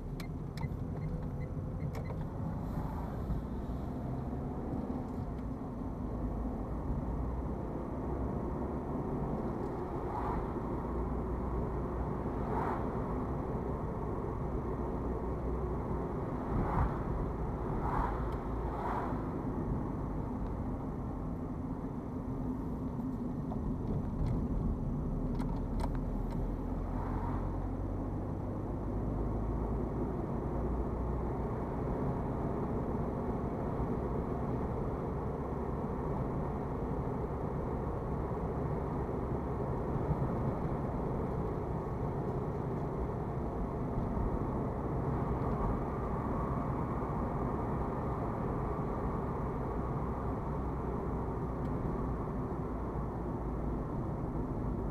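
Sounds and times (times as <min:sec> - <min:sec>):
car engine hum: 0:00.0 - 0:54.9
tyre road noise: 0:00.0 - 0:54.9.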